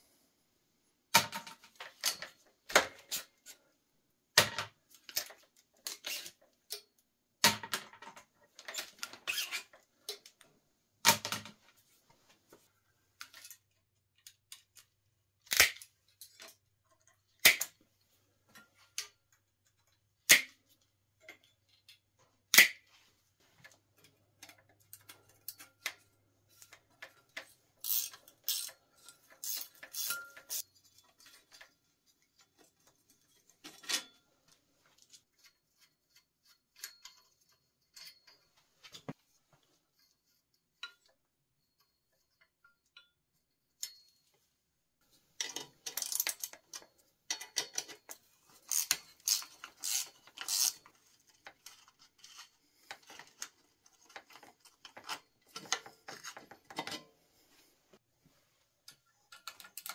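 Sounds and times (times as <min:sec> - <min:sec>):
bicycle parts metal clicks and clanks: 0:01.1 - 0:03.6, 0:04.4 - 0:11.7, 0:13.2 - 0:17.9, 0:18.5 - 0:44.5, 0:45.3 - 0:57.1, 0:58.8 - 0:59.9.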